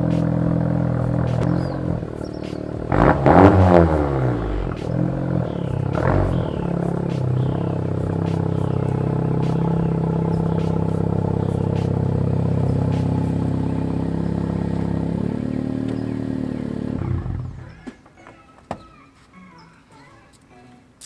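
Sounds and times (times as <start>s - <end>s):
car engine running: 0.0s - 17.8s.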